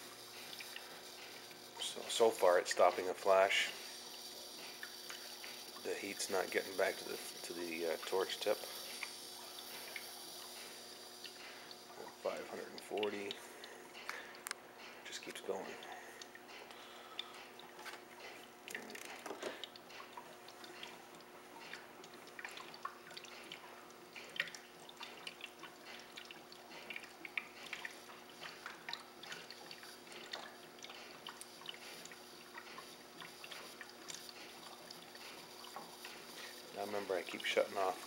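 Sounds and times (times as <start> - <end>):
liquid bubbling and dripping: 0.0 - 38.0.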